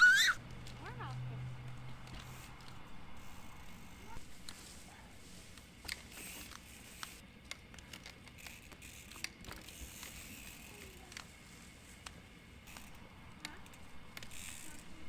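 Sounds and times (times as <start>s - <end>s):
bike clicks and crackles: 0.0s - 15.0s.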